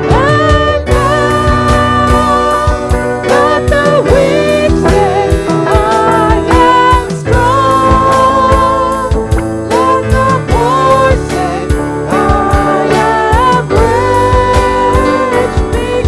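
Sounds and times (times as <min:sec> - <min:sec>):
person singing worship music: 0:00.0 - 0:16.0
steady drum beat: 0:00.0 - 0:16.0.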